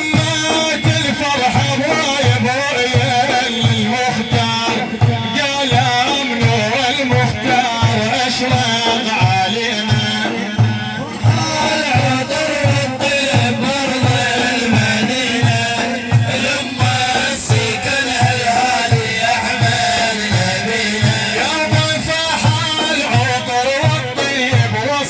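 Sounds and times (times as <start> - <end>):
low drum beat: 0.0 - 25.0.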